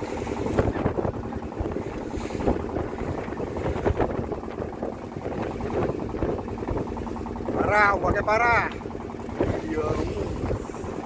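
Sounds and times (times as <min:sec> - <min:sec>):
boat engine: 0:00.0 - 0:11.0
hull slapping waves: 0:00.0 - 0:11.0
wind buffeting microphone: 0:00.0 - 0:11.0.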